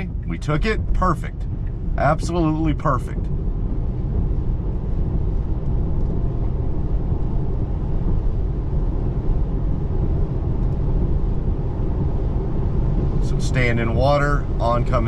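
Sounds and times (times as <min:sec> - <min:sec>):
road and tyre rumble in car cabin: 0:00.0 - 0:15.0.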